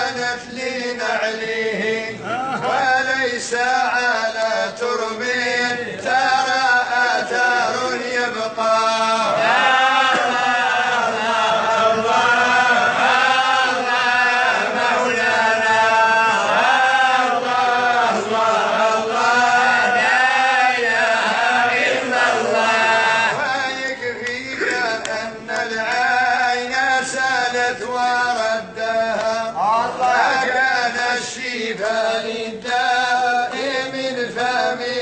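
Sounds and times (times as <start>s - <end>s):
solo voice chanting: 0.0s - 35.0s.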